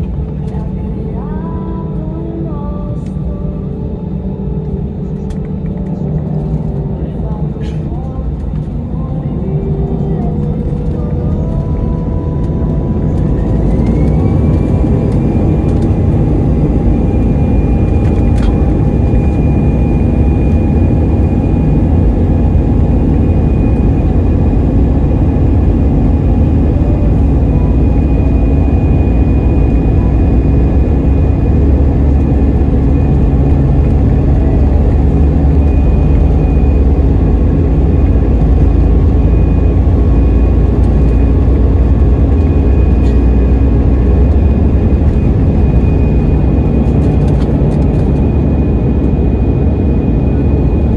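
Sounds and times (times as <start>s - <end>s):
loud steady rumble: 0.0s - 50.9s
jet engines spooling up: 9.6s - 50.9s.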